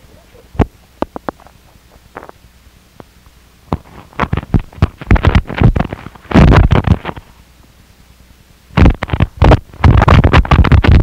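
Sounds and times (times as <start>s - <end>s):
distorted static noise bursts: 0.0s - 11.0s.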